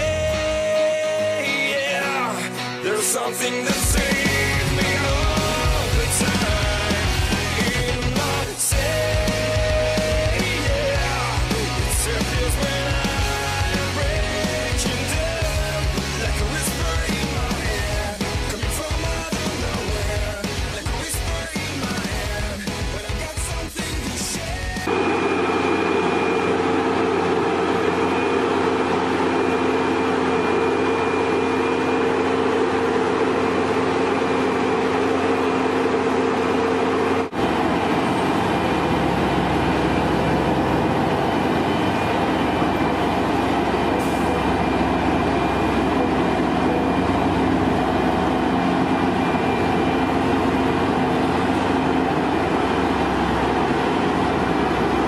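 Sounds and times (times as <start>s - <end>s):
machine deep rumble: 0.0s - 0.8s, 3.9s - 55.0s
heavy machinery din with whine: 3.5s - 55.0s.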